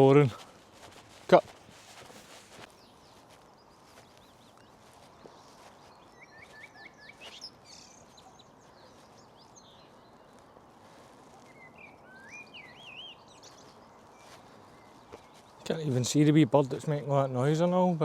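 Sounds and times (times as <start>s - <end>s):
outdoor background noise: 0.0s - 18.0s
songbird chirping: 0.0s - 18.0s.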